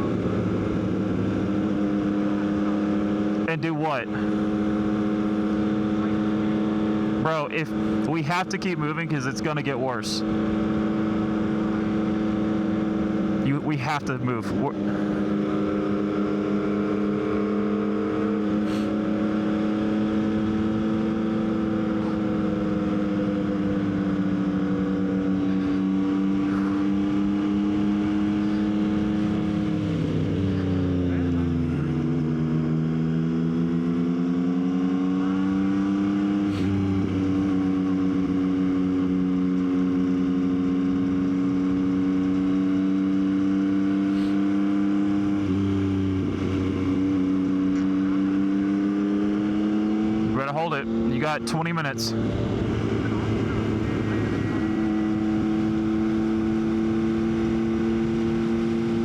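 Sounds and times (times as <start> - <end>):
motorcycle engine cruising: 0.0 - 13.4, 14.7 - 51.1, 52.1 - 59.0.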